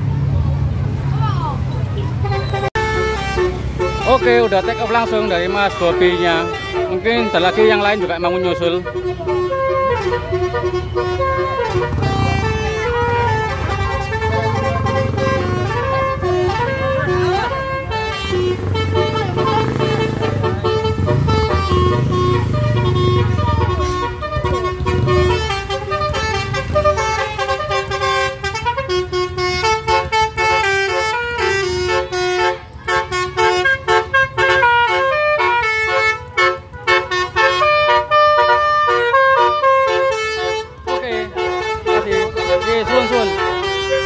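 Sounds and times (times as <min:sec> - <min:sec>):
car engine rumble: 0:00.0 - 0:44.0
musical air horn playing a tune: 0:02.2 - 0:44.0.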